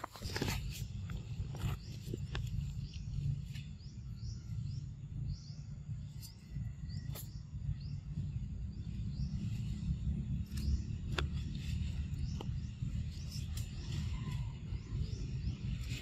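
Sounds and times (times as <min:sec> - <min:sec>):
bird chirping: 0:00.0 - 0:16.0
low rumble: 0:00.0 - 0:16.0.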